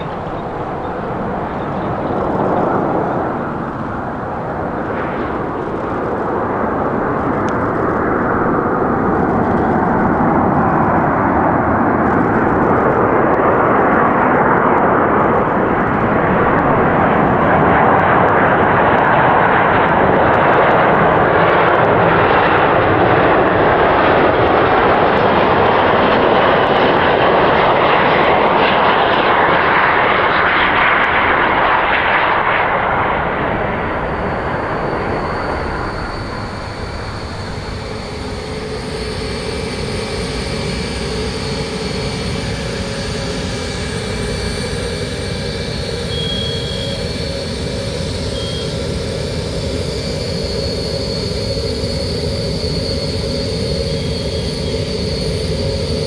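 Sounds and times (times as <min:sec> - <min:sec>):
jet engines roaring: 0:00.0 - 0:56.0
thin steady whines: 0:00.0 - 0:56.0.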